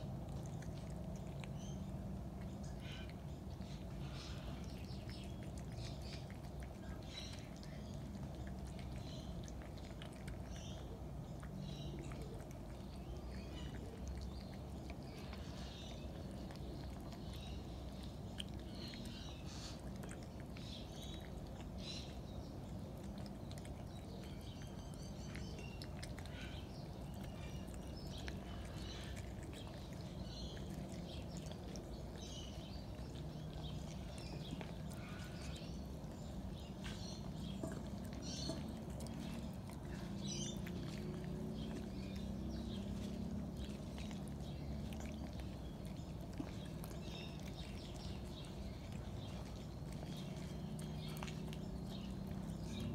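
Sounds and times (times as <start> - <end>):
cats chewing and smacking: 0.0 - 52.9
low background rumble: 0.0 - 52.9.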